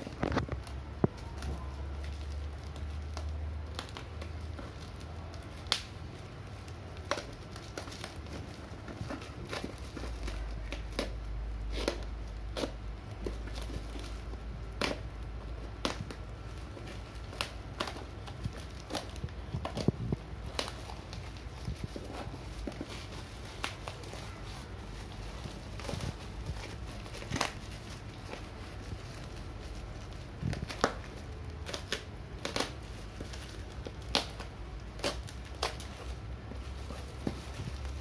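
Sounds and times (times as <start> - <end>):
blade cutting plastic wrapping: 0.0 - 38.0
plastic crinkling: 0.0 - 38.0.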